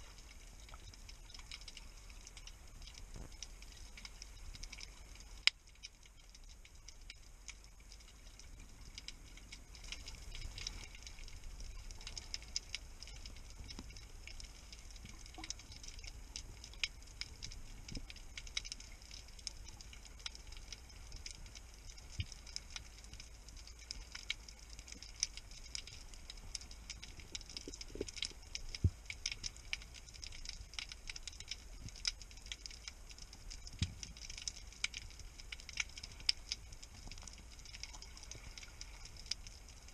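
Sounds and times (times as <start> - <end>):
low rumble of water: 0.0 - 39.9
snapping shrimp clicks underwater: 0.1 - 39.9.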